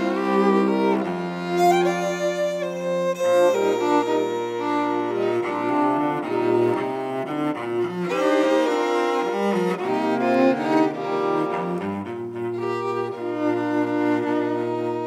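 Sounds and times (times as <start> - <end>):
string quartet playing: 0.0 - 15.0.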